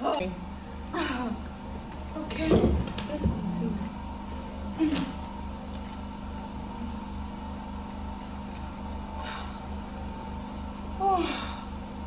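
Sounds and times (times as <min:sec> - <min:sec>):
machine hum with low throb: 0:00.0 - 0:12.0.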